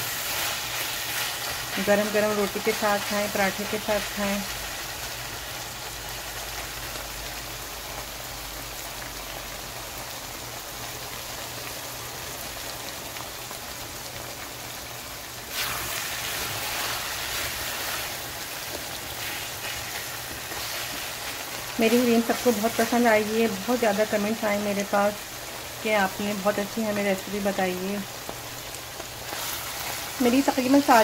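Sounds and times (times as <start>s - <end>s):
bean pods sizzling in oil: 0.0s - 31.0s.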